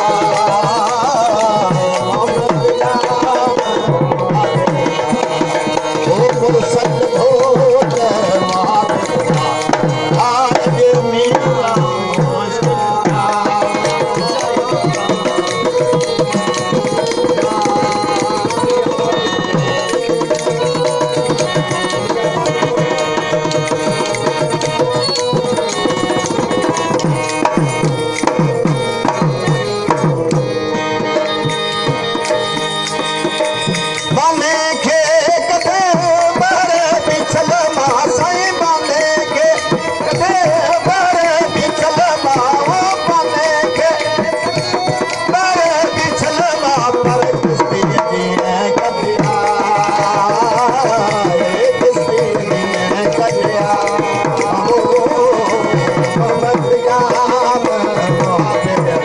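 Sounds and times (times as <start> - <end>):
hand drum: 0.0 - 59.0
long-necked string instrument: 0.0 - 59.0
man singing: 0.0 - 59.0.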